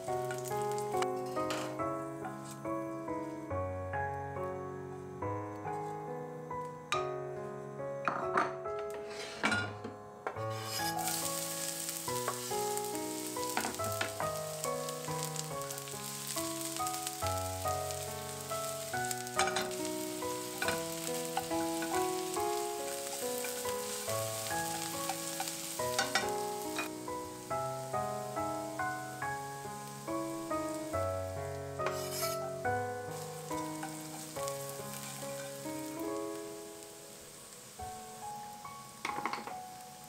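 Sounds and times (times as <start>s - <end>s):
onions sizzling in a pan: 0.0s - 3.3s, 9.0s - 9.7s, 10.4s - 40.0s
background music: 0.0s - 40.0s.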